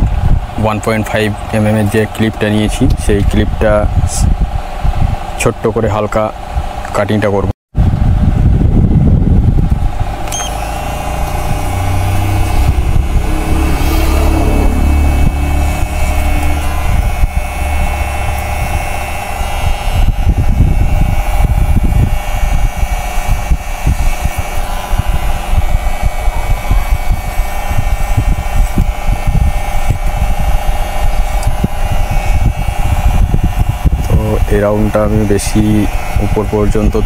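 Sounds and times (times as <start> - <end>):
hair clipper humming: 0.0 - 5.0, 9.5 - 37.0.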